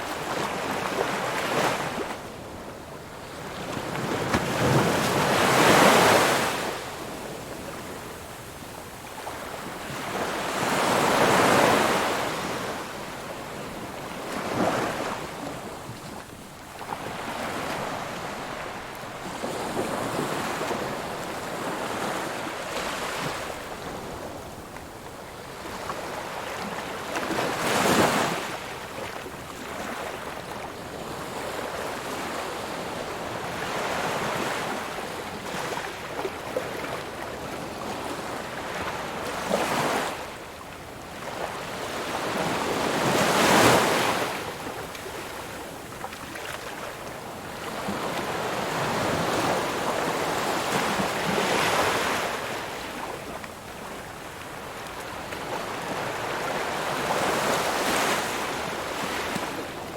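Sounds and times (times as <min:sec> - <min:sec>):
ocean waves on shore: 0:00.0 - 0:59.9.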